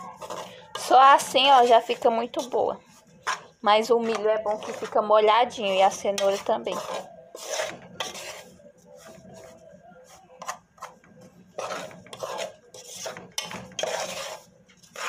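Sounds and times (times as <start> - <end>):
metal spoon scraping flour in pot: 0.0 - 15.0.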